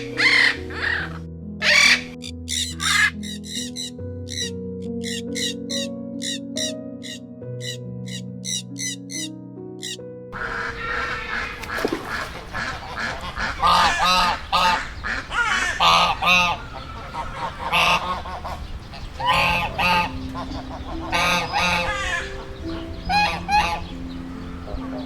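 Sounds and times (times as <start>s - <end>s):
farm fowl calling: 0.0s - 24.0s.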